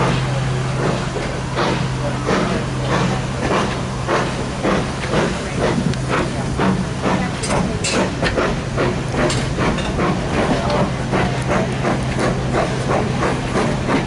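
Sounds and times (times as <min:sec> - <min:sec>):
train hum and hiss: 0:00.0 - 0:14.0
train wheels clicking over rails: 0:00.0 - 0:14.0.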